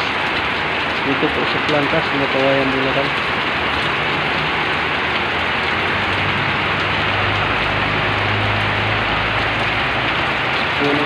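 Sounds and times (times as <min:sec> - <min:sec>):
heavy rain on concrete: 0:00.0 - 0:11.0.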